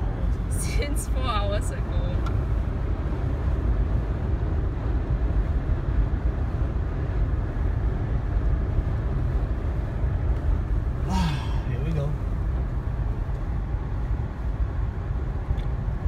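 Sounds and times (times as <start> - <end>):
car road rumble: 0.0 - 16.0.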